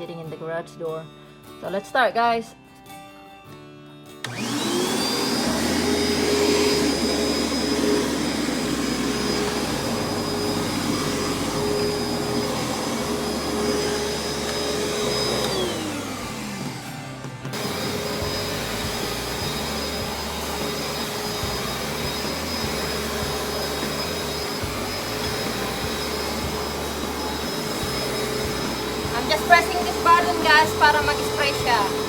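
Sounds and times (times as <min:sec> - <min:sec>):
vacuum cleaner motor whining: 0:04.2 - 0:32.0.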